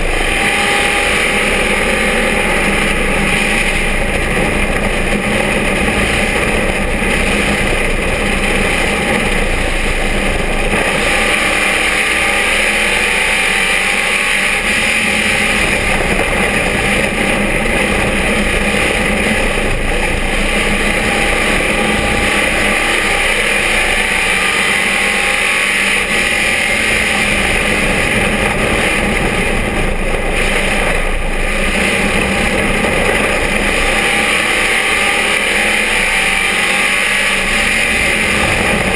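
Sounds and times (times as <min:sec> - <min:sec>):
race car engine drone: 0:00.0 - 0:38.9.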